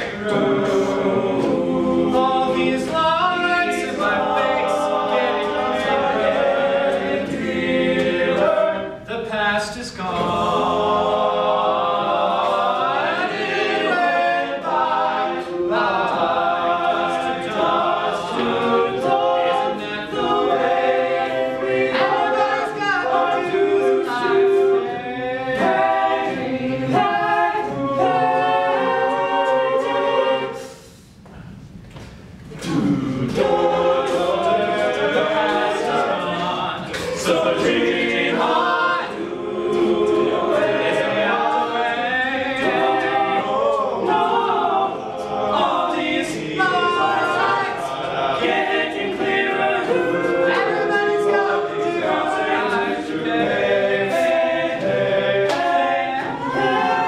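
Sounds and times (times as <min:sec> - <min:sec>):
men singing a cappella harmony: 0:00.0 - 0:09.2, 0:09.8 - 0:30.7, 0:32.6 - 0:57.0.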